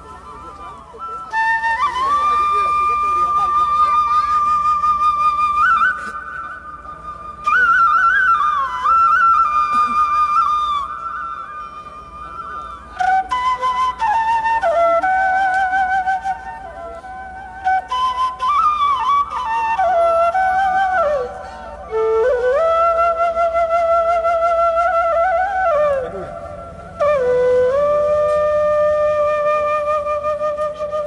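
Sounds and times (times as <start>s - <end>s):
slow flute melody: 0.0s - 31.0s.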